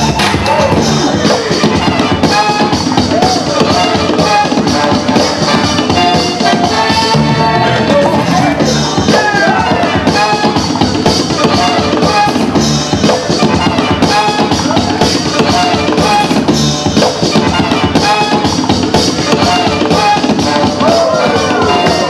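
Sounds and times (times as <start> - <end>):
loud music with drum beat: 0.0 - 22.0.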